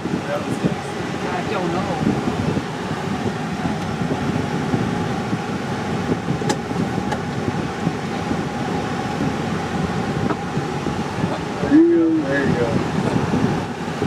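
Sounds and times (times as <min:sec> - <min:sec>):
engine and road noise in cab: 0:00.0 - 0:14.0.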